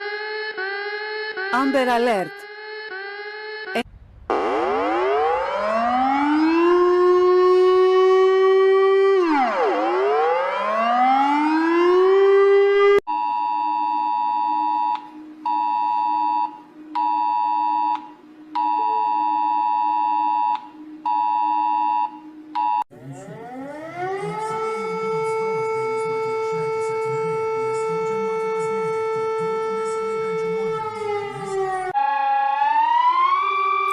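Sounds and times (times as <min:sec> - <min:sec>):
siren winding up: 0:00.1 - 0:13.0, 0:13.6 - 0:33.9.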